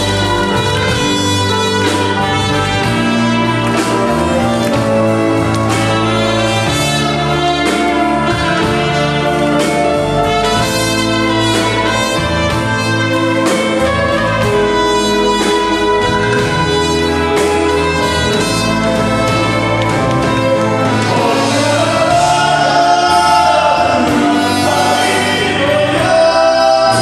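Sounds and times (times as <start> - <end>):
drum kit beat: 0.0 - 27.0
trumpet playing: 0.0 - 27.0.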